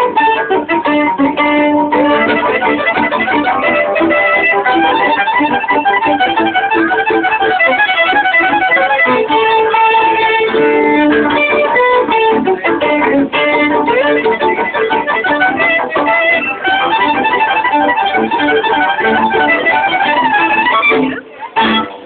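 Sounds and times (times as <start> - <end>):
string quartet playing: 0.0 - 22.0.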